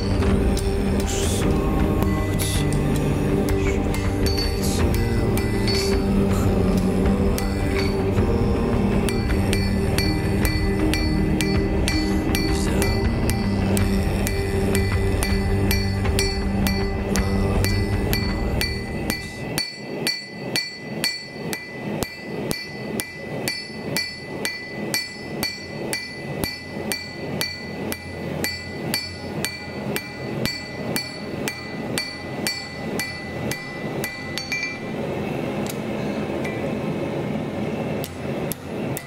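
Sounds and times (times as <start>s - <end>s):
hammer striking steel on anvil: 0.0s - 35.1s.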